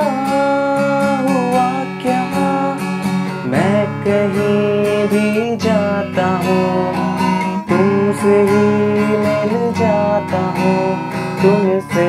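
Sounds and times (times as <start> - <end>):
acoustic guitar strumming: 0.0 - 12.0
man singing: 0.0 - 12.0.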